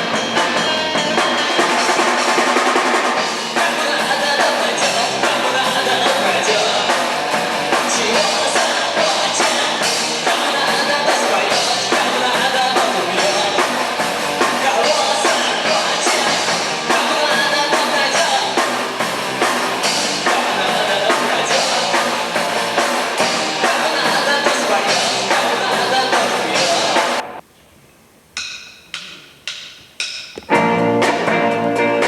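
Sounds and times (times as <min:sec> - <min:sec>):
person singing: 0:00.0 - 0:02.4, 0:03.2 - 0:27.2
drum kit beat: 0:00.0 - 0:27.4, 0:28.4 - 0:32.0
live rock band playing: 0:00.0 - 0:27.4, 0:30.4 - 0:32.0.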